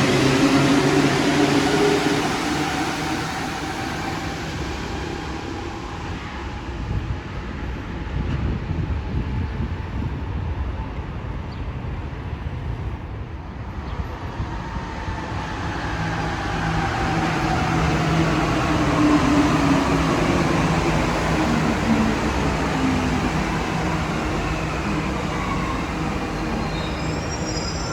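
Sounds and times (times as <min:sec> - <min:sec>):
train low rumble: 0:00.0 - 0:27.9.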